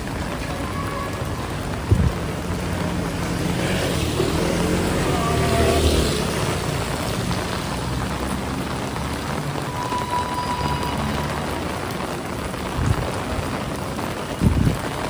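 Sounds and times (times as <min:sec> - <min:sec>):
heavy rain hissing: 0:00.0 - 0:15.0
vehicle passing on wet street: 0:00.0 - 0:15.0.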